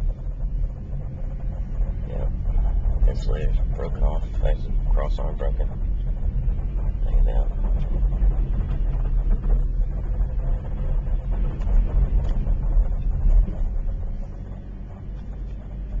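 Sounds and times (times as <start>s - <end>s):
vehicle rumbling on snowy street: 0.0s - 16.0s.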